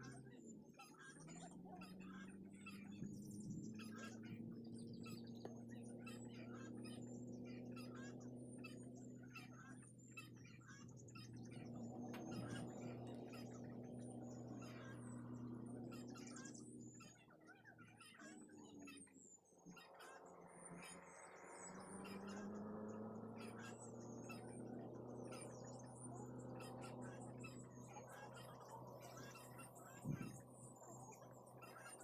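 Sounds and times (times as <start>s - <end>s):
faint birds chirping: 0.0s - 32.0s.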